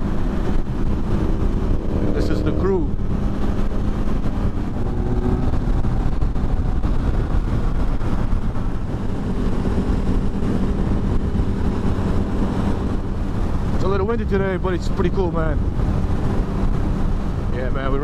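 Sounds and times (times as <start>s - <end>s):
low wind rumble: 0.0s - 18.0s
motorcycle engine cruising: 0.0s - 18.0s.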